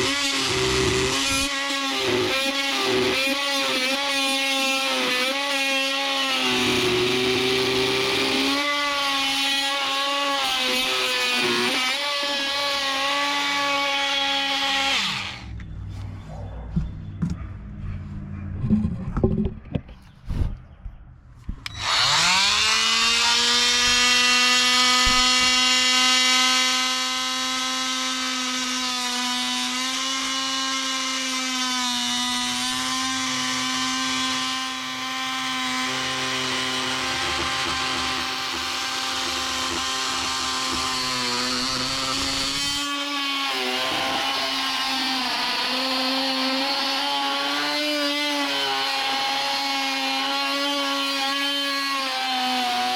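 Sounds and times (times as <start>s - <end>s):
oscillating multi-tool cutting wood: 0.0s - 15.6s, 21.6s - 52.9s.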